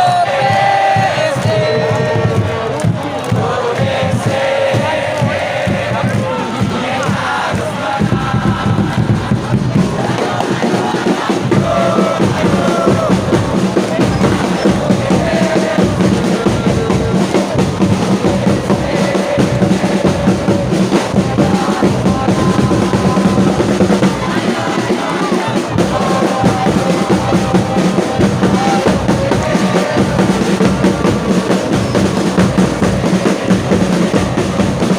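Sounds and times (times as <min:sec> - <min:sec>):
crowd singing a chant: 0:00.0 - 0:34.9
drums beating: 0:00.0 - 0:34.9.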